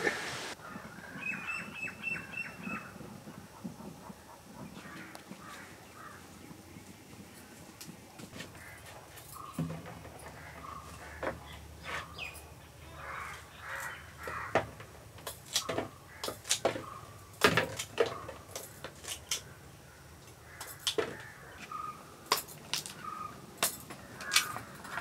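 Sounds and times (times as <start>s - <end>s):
bird calls: 0.5s - 7.7s, 8.3s - 14.9s, 15.6s - 22.2s, 22.8s - 25.0s.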